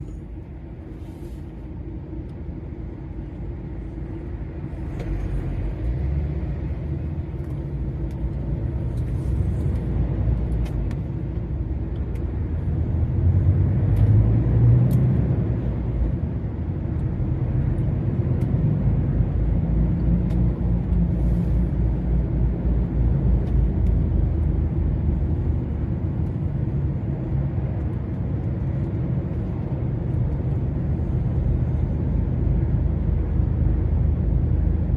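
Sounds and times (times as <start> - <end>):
lorry diesel engine rumble: 0.0 - 34.9
road noise: 0.0 - 34.9.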